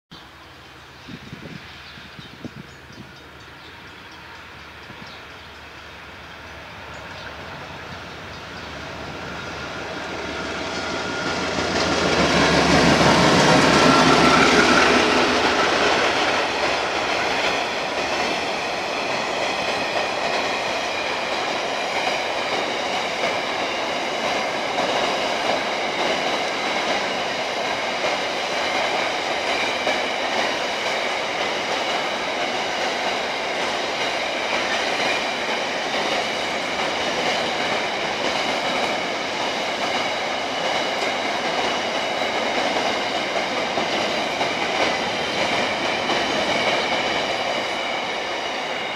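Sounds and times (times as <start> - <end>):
train locomotive passing: 0.2 - 48.9.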